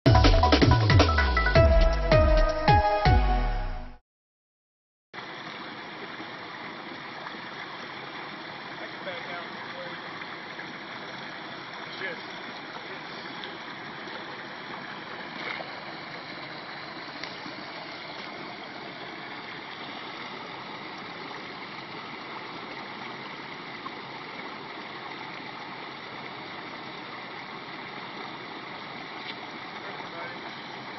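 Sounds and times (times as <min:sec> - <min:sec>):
water rushing: 0:05.2 - 0:30.9.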